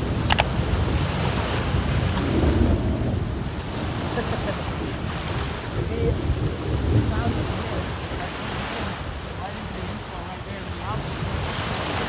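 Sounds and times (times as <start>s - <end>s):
waves breaking on shore: 0.0s - 12.0s
wind buffeting microphone: 0.0s - 12.0s.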